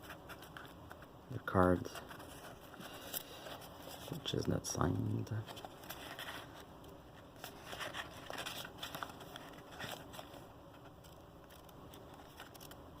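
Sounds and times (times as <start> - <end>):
paper rustling: 0.0 - 1.1, 1.8 - 12.8.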